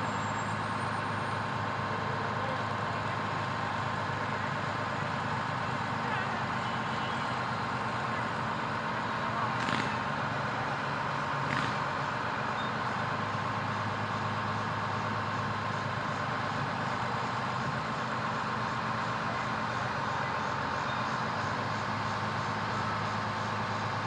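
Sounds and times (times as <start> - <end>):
road noise: 0.0 - 24.0
truck engine running: 0.0 - 24.0.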